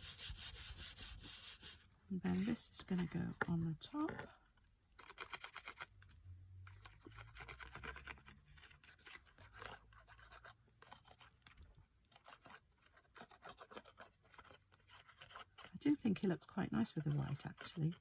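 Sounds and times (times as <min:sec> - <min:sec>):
card stock rustling and scratching: 0:00.0 - 0:04.3, 0:06.7 - 0:18.0.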